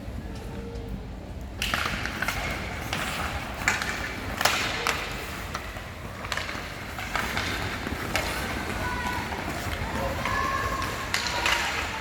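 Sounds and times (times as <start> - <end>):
hockey sticks and puck knocking: 1.6 - 12.0
skates scraping on ice: 1.6 - 12.0.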